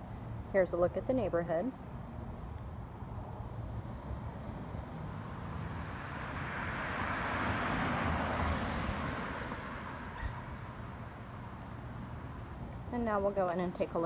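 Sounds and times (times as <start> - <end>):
vehicle passing with tyre noise: 1.7 - 14.0.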